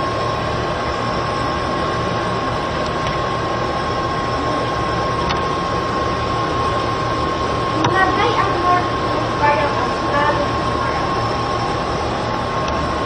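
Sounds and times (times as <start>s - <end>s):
kitchen exhaust fan whirring: 0.0s - 13.0s.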